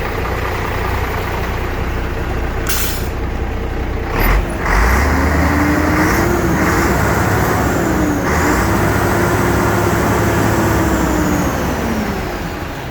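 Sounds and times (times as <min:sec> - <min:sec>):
heavy road vehicle running: 0:00.0 - 0:12.9.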